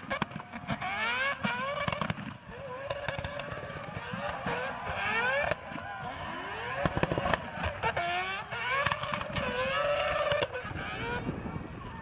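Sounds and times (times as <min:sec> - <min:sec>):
exhaust backfire cracks: 0:00.0 - 0:10.9
rotary engine revving hard: 0:00.0 - 0:11.6.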